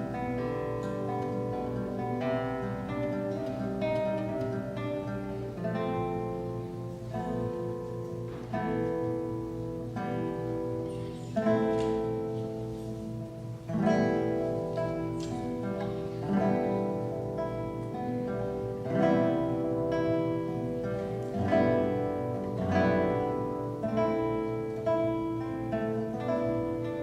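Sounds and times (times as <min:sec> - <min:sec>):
solo classical guitar: 0:00.0 - 0:27.0.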